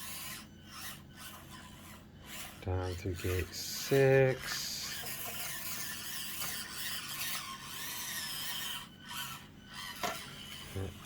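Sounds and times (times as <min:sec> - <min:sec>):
toy car electric motor whining: 0:00.0 - 0:11.0.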